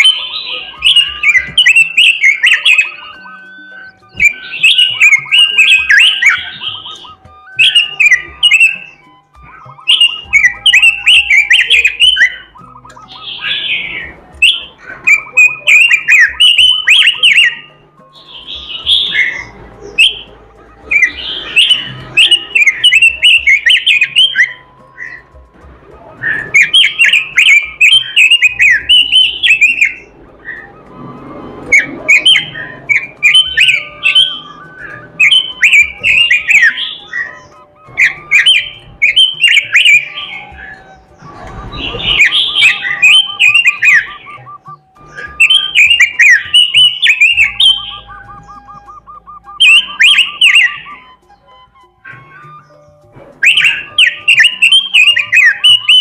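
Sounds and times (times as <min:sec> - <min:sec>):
bird fast warbling song: 0:00.0 - 0:25.4, 0:26.2 - 0:30.9, 0:31.6 - 0:56.0.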